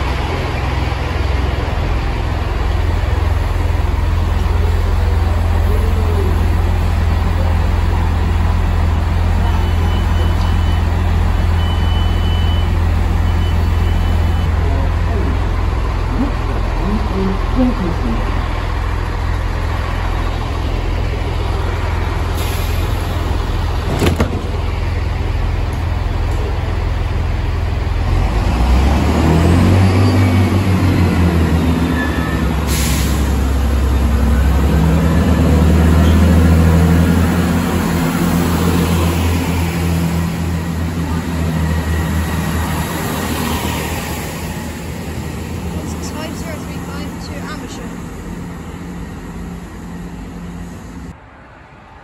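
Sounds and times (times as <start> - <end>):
train diesel engines rumbling: 0.0 - 52.0.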